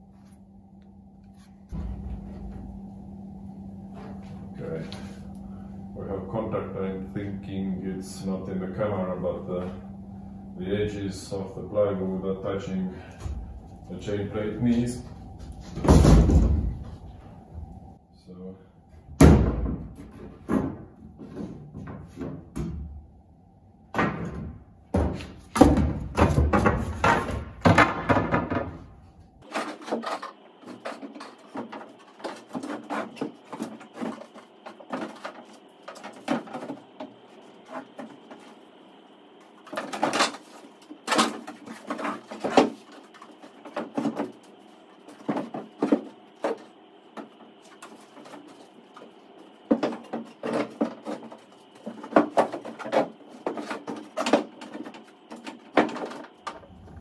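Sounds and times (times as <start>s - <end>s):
faint high hum: 0.0s - 57.0s.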